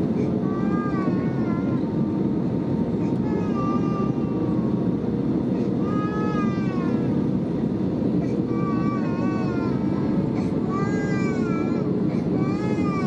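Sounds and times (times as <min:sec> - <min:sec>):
airliner engine rumble in cabin: 0:00.0 - 0:13.0.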